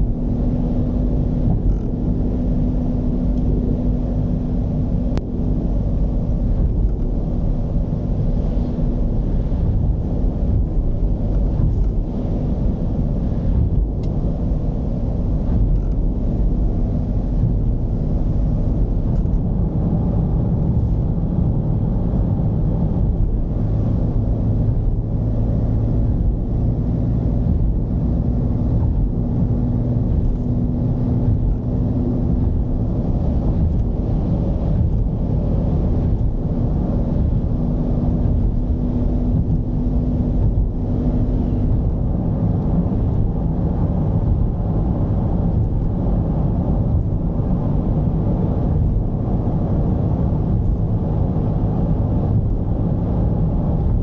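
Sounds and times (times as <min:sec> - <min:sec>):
diesel engine droning: 0:00.0 - 0:54.0
road noise: 0:00.0 - 0:54.0.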